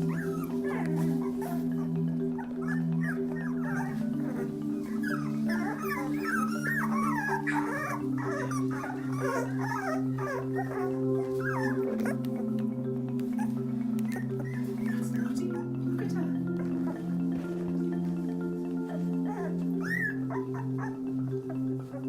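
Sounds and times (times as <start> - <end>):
background music with held notes: 0.0 - 22.0
puppies whining and squealing: 0.0 - 22.0.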